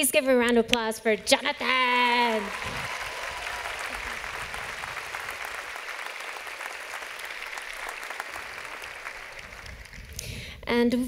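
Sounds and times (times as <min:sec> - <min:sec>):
audience applause: 0:01.4 - 0:10.2.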